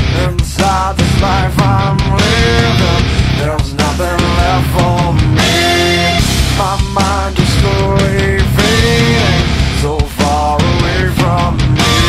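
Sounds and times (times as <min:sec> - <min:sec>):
hard rock music: 0:00.0 - 0:12.0.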